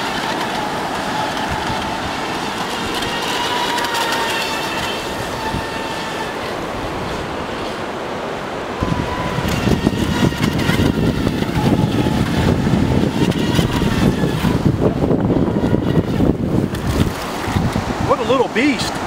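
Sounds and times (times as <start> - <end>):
electric motor whine: 0.0 - 17.8.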